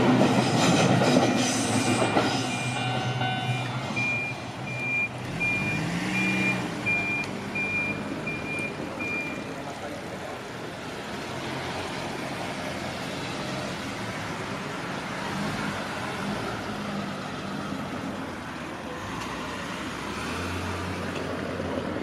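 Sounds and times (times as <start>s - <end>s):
cars driving over railway tracks: 0.0s - 22.0s.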